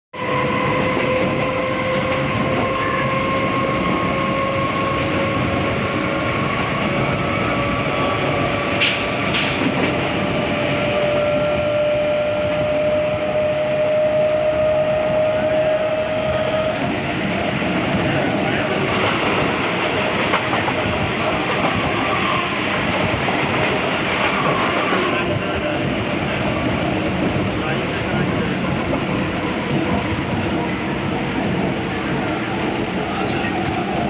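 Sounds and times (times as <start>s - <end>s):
train rumbling on rails: 0.1s - 34.0s.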